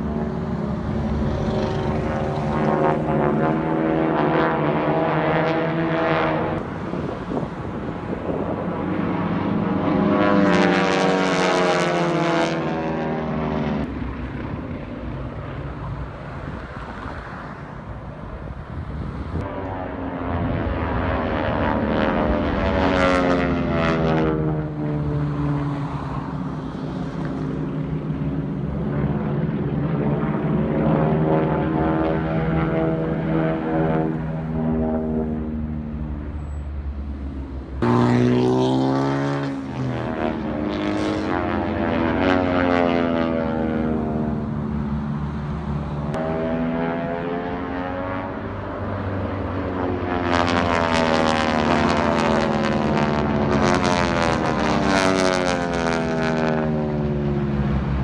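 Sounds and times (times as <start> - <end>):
propeller planes droning overhead: 0.0 - 58.0.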